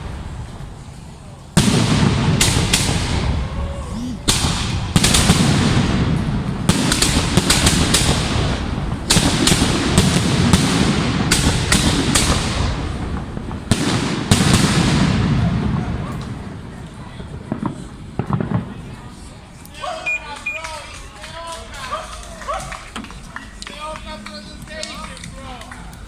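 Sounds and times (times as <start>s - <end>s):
fireworks banging and crackling: 0.0s - 26.0s.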